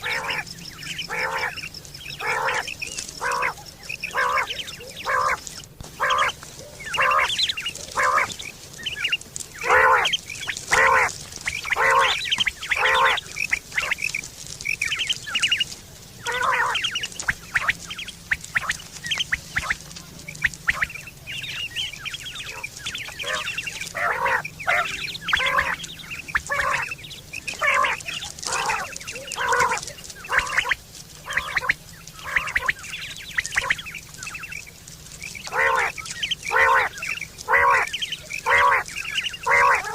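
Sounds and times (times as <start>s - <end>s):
quail calling: 0.0s - 39.9s.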